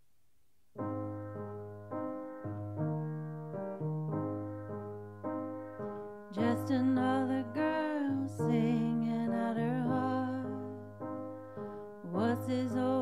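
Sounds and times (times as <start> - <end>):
piano playing slow chords: 0.8 - 13.0.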